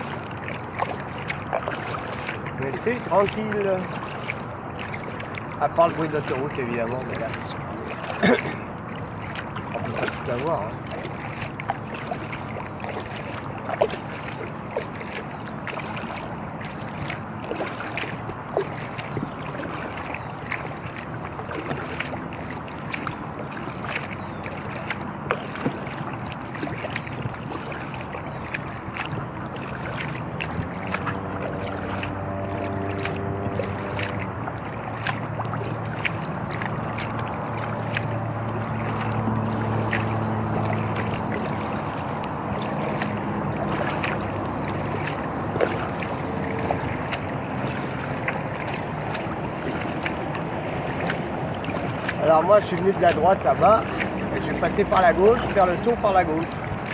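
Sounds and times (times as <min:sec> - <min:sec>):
highway traffic hum: 0:00.0 - 0:56.9
low engine drone: 0:00.0 - 0:56.9
water splashing against kayak: 0:00.0 - 0:56.9.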